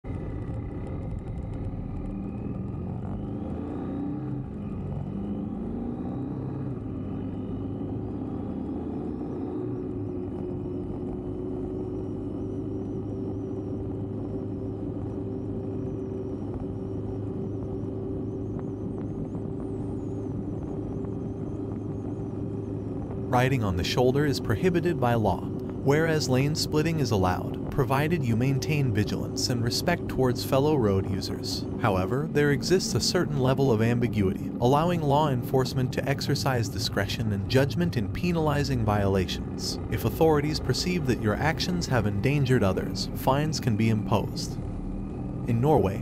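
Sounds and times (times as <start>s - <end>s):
motorcycle engine: 0.0s - 46.0s
road noise: 0.0s - 46.0s.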